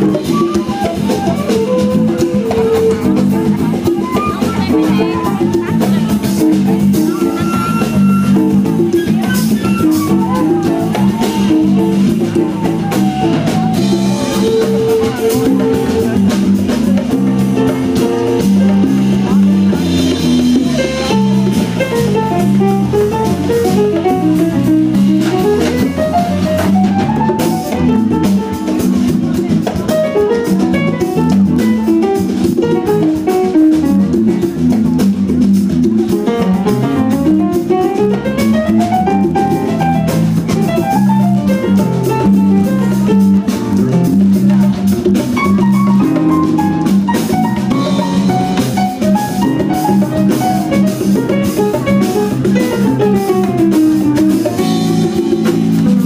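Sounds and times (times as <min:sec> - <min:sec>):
drum kit groove: 0:00.0 - 0:56.0
electric bass solo: 0:00.0 - 0:56.0.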